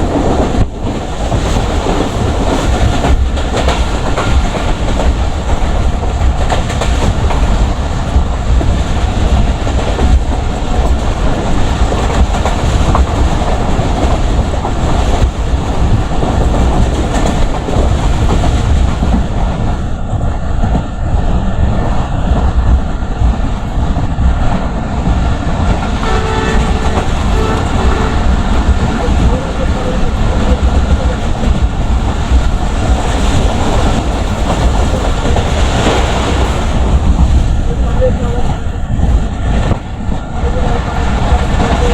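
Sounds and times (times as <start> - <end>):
train passing at speed: 0.0 - 41.9.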